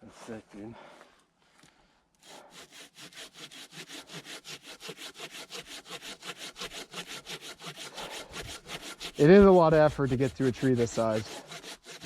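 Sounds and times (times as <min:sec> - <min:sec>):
hand saw cutting log: 0:02.2 - 0:12.0.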